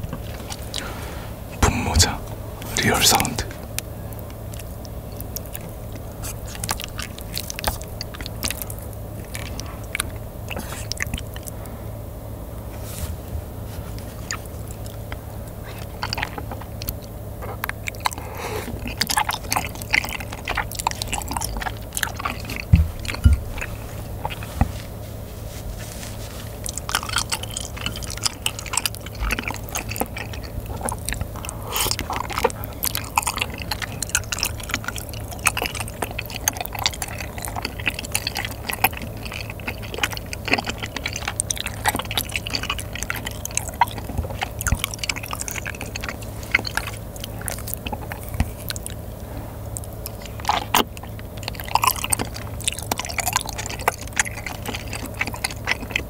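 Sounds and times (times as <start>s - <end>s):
chewing soft food: 0.0s - 56.0s
wet mouth clicks and smacks: 2.0s - 11.6s, 14.2s - 24.7s, 26.6s - 49.0s, 49.8s - 56.0s.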